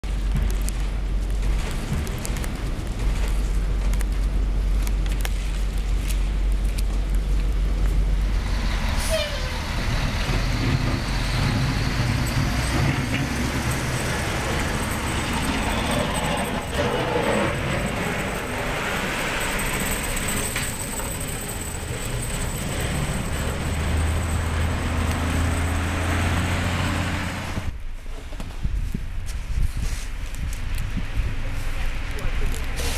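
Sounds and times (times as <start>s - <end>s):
passing vehicles: 0.0s - 28.4s, 29.8s - 32.9s
low engine hum: 0.0s - 32.9s.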